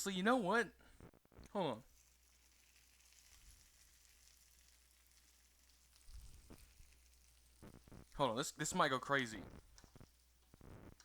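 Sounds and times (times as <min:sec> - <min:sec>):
food sizzling: 0:00.0 - 0:11.0.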